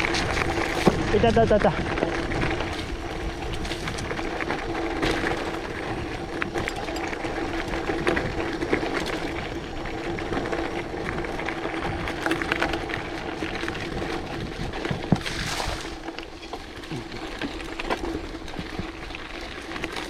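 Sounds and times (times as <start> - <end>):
bike rolling over gravel: 0.0 - 20.0.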